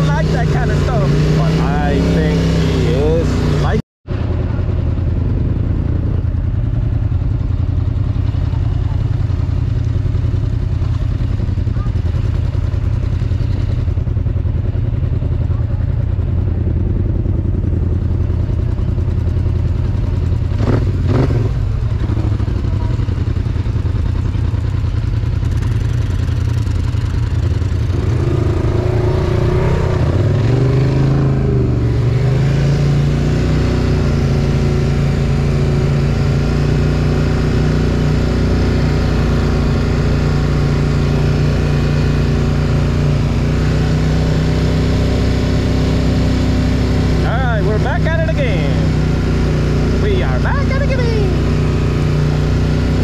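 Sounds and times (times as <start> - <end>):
quad engine idling and revving: 0.0 - 53.0.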